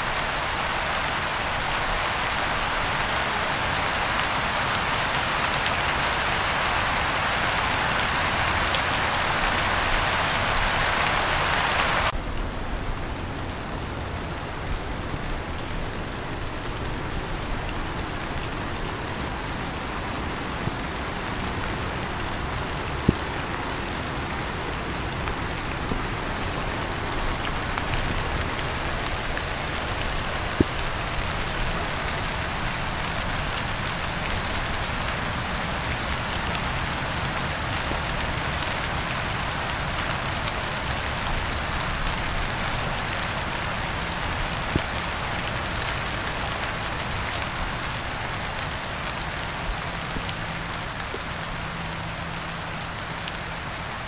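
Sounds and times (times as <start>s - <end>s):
rain falling on water: 0.0s - 54.0s
cricket chirping: 6.0s - 54.0s.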